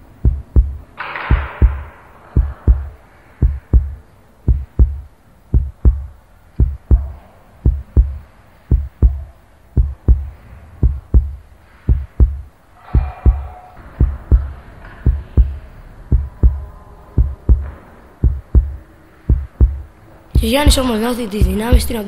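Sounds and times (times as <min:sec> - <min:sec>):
heartbeat double thumps: 0:00.0 - 0:22.0.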